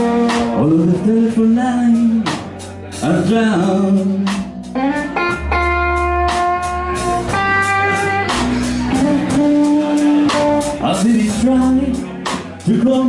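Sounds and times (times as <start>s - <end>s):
blues electric guitar notes: 0.0s - 13.0s
drums with cymbal hits: 0.0s - 13.0s
electric bass: 0.0s - 13.0s.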